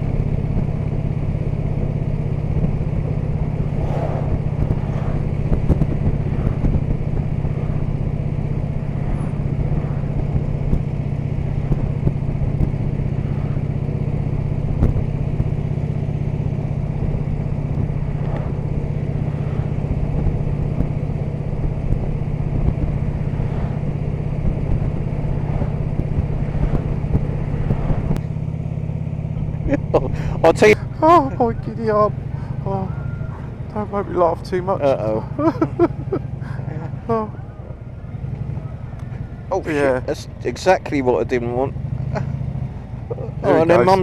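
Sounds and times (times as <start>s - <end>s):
motorcycle engine cruising: 0.0s - 44.0s
road and wind noise: 0.0s - 44.0s.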